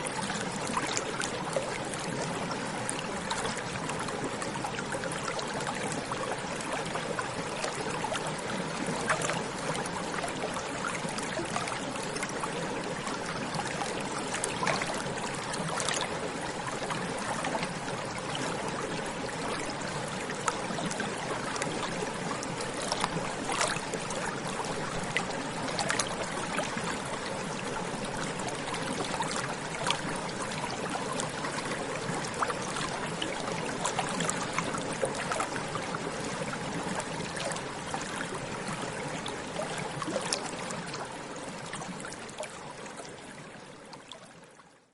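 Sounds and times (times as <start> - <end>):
stream babbling over rocks: 0.0 - 43.8.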